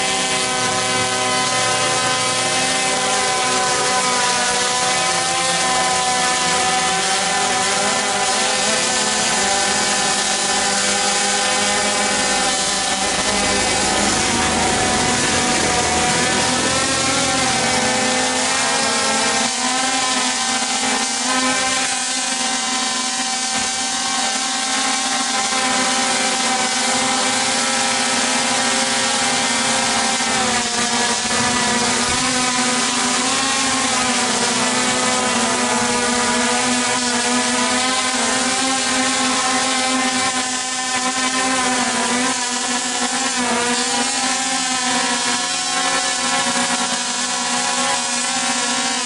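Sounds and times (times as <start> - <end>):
drone propellers buzzing: 0.0 - 49.0.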